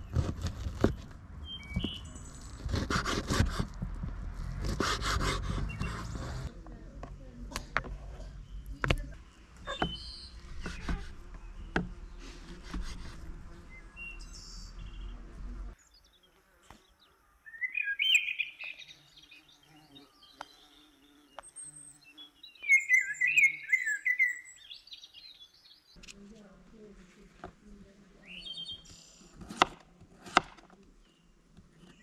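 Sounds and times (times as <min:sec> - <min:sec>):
birds chirping: 0:00.0 - 0:26.9, 0:27.8 - 0:29.4, 0:30.8 - 0:32.0.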